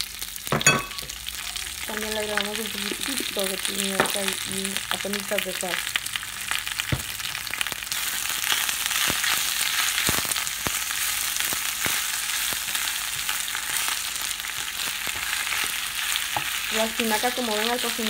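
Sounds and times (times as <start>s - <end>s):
spinach sizzling in oil: 0.0s - 18.0s.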